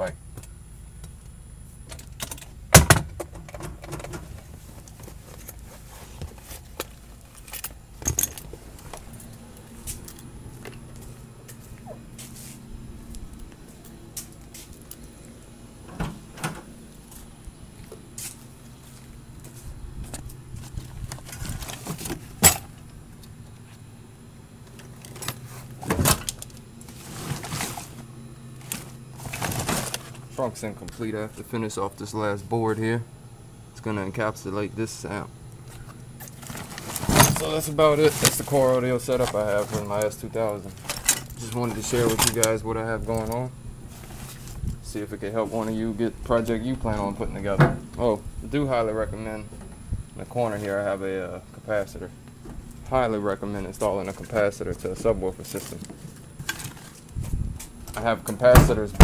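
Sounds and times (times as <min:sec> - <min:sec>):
steady low hum: 0:00.0 - 0:59.0
rustling of trunk contents: 0:01.8 - 0:31.5, 0:35.6 - 0:47.9, 0:51.8 - 0:59.0.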